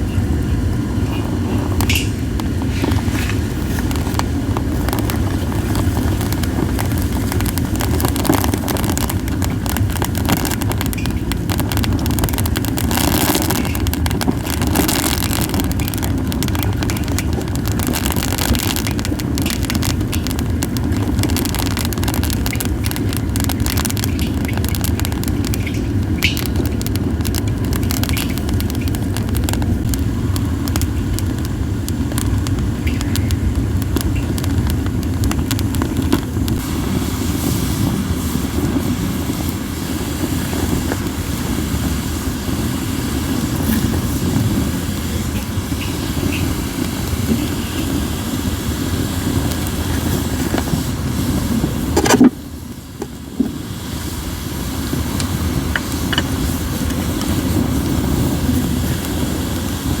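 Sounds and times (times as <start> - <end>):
wind rumble on microphone: 0.0 - 60.0
wood fire crackling: 0.0 - 60.0
sharp pop of fire: 1.0 - 53.7.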